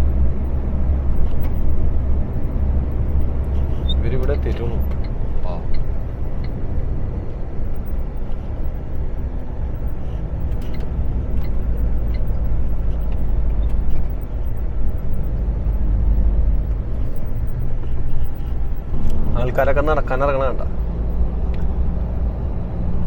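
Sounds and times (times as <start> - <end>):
lorry engine and road drone: 0.0 - 23.0.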